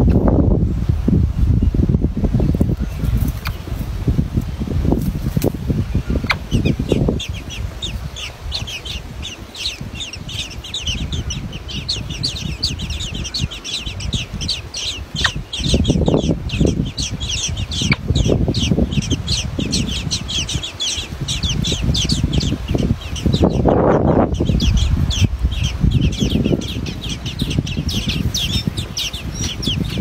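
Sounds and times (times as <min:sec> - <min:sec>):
nestlings chirping: 0:02.4 - 0:04.0, 0:04.9 - 0:30.0.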